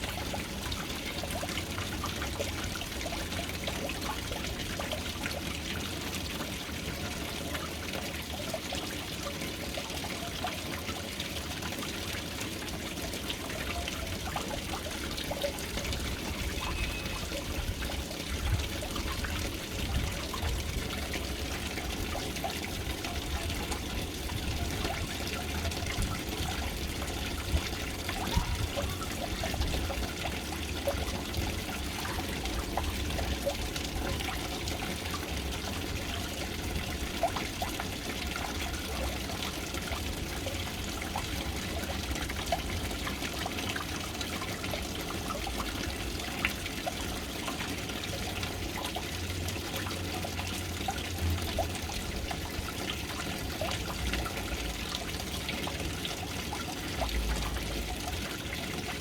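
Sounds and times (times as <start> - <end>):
water pouring into tank: 0.0 - 59.0.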